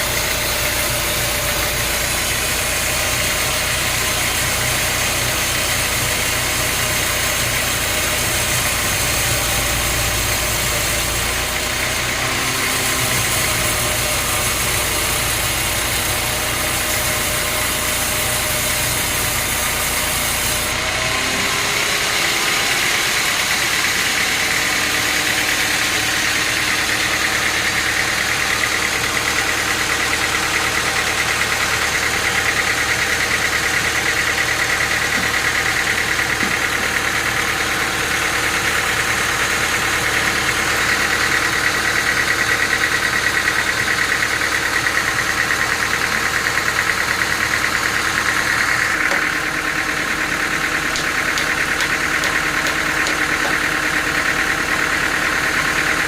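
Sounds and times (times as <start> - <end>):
engine-driven machinery running: 0.0 - 56.0
high machine whine: 0.0 - 56.0.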